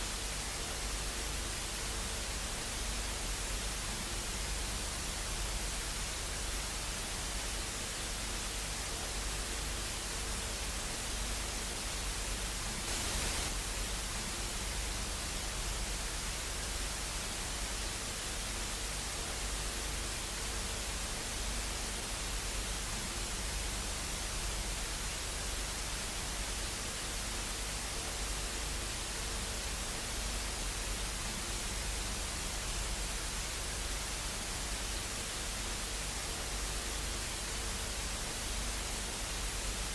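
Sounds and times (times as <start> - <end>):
faint hum: 0.0 - 39.9
static hiss: 0.0 - 39.9.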